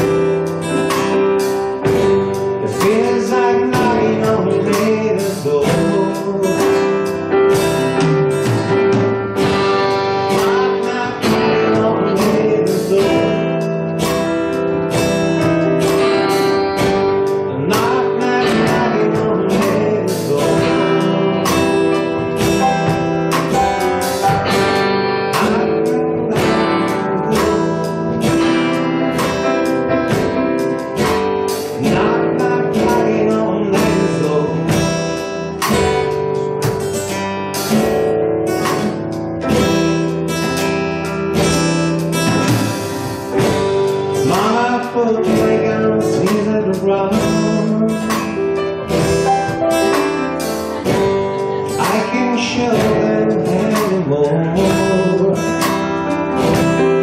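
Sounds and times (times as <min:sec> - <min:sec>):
acoustic guitar: 0:00.0 - 0:57.0
drum kit beat: 0:00.0 - 0:57.0
electric guitar: 0:00.0 - 0:57.0.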